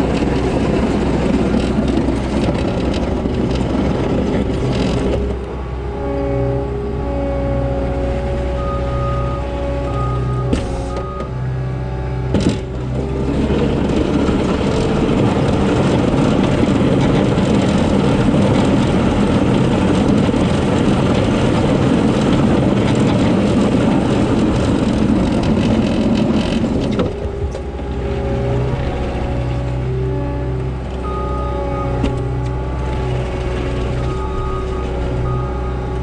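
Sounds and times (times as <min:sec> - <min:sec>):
skid steer diesel engine: 0:00.0 - 0:36.0.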